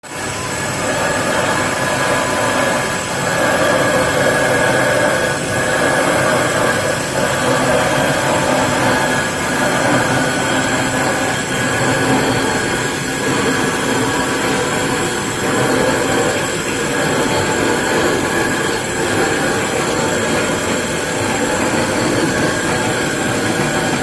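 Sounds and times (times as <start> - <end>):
lathe machines grinding marble: 0.0 - 24.0
steady whining tones: 0.0 - 24.0.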